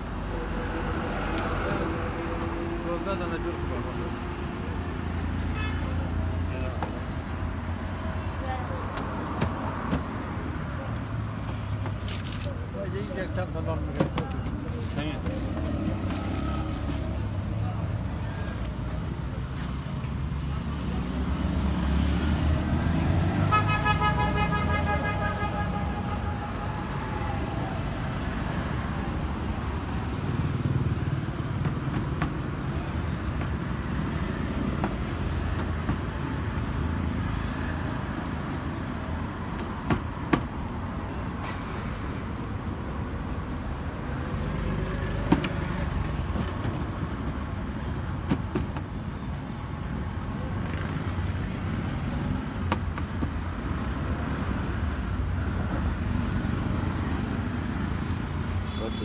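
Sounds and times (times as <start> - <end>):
low rumble of street traffic: 0.0 - 59.0.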